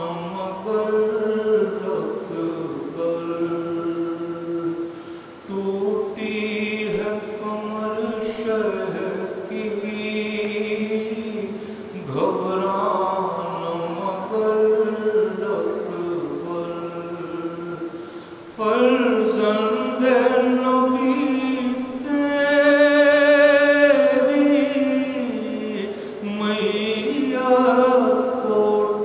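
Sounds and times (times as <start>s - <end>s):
man chanting into a microphone: 0.0s - 29.0s.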